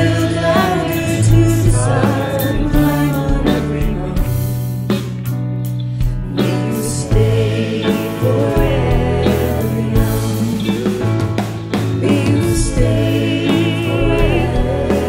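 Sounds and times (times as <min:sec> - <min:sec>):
group singing a pop ballad: 0:00.0 - 0:05.0, 0:06.0 - 0:15.0
electric guitar: 0:00.0 - 0:15.0
keyboard: 0:00.0 - 0:15.0
sustained bass: 0:00.0 - 0:15.0.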